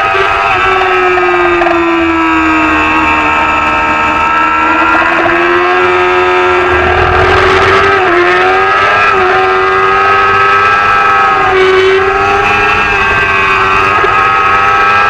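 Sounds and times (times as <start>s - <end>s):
racing motorcycle engine at high revs: 0.0s - 15.0s.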